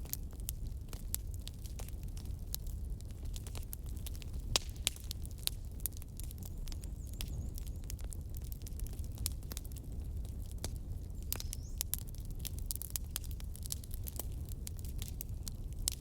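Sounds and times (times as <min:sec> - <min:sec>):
bonfire flame rumble: 0:00.0 - 0:16.0
fire crackling and popping: 0:00.0 - 0:16.0.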